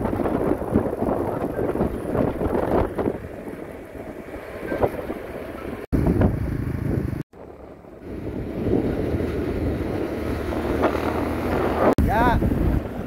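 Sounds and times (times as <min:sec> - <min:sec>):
road and engine rumble: 0:00.0 - 0:13.0
wind buffeting microphone: 0:00.0 - 0:13.0.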